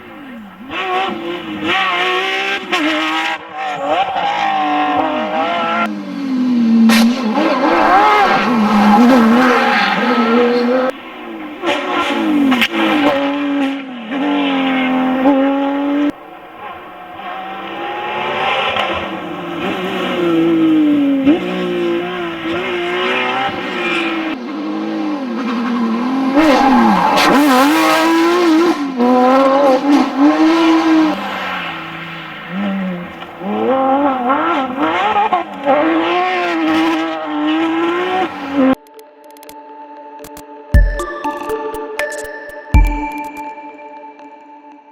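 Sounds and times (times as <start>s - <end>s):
rally car engine revving hard: 0.0s - 38.8s.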